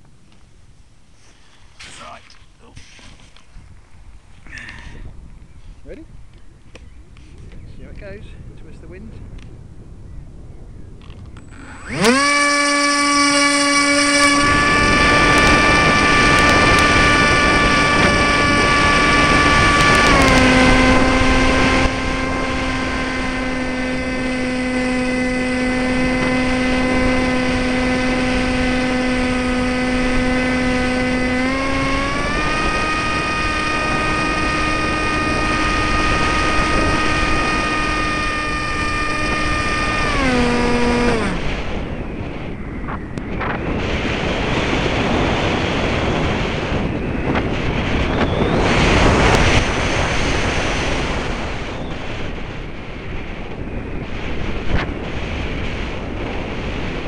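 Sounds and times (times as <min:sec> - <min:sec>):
electric motor and propeller whine: 0:00.0 - 0:57.0.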